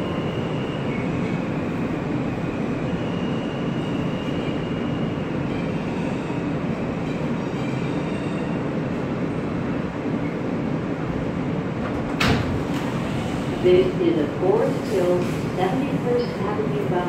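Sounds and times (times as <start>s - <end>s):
subway car rumbling in tunnel: 0.0s - 17.0s.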